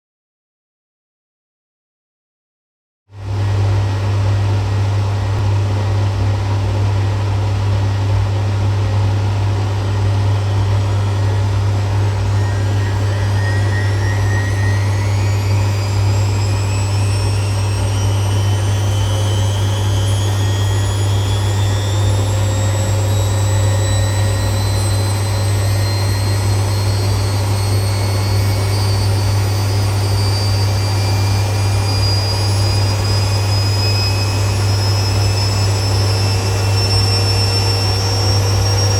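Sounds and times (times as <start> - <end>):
washing machine spin cycle: 3.2 - 38.9.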